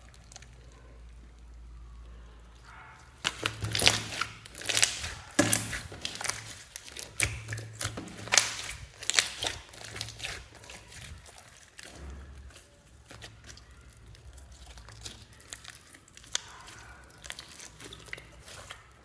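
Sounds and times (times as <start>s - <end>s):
slime squished by hand: 0.0s - 19.0s.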